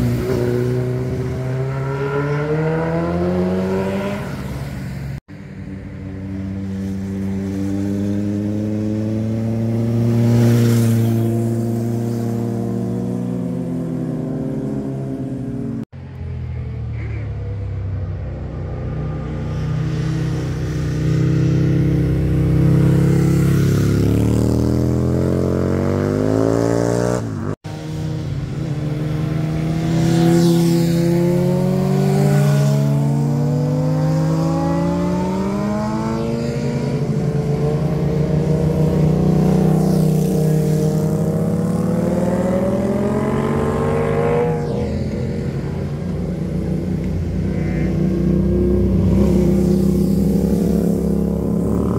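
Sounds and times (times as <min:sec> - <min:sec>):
motorcycle engines accelerating: 0:00.0 - 0:51.9.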